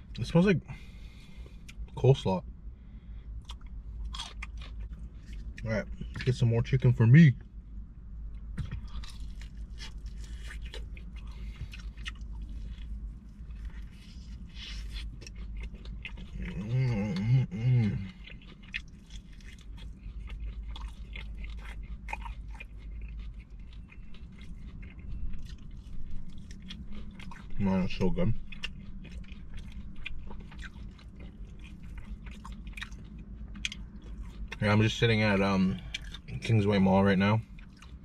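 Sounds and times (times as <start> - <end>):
chewing and crunching fried chicken: 0.0 - 38.0
steady low rumble: 0.0 - 38.0.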